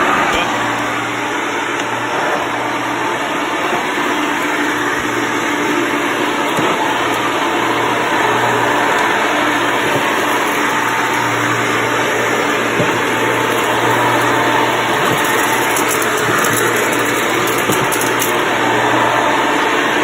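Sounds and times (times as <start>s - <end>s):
upright vacuum cleaner running: 0.0s - 20.0s.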